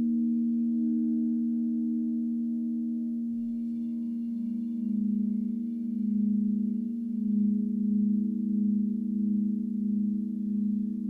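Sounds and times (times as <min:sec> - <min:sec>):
crystal singing bowls ringing: 0:00.0 - 0:11.0.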